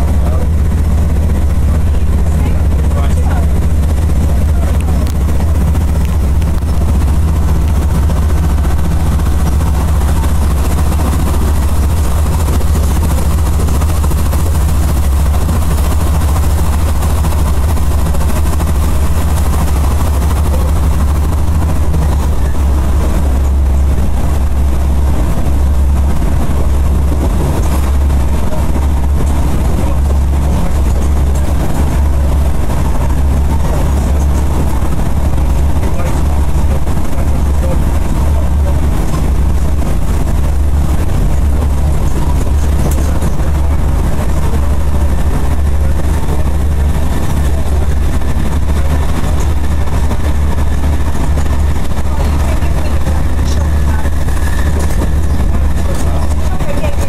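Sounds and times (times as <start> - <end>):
low droning hum: 0.0 - 57.0
train rumble inside carriage: 0.0 - 57.0.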